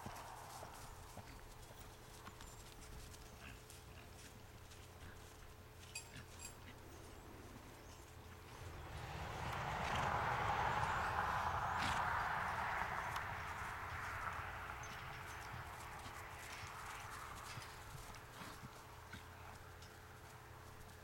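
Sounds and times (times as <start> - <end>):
hoofbeats on grass: 0.0 - 21.0.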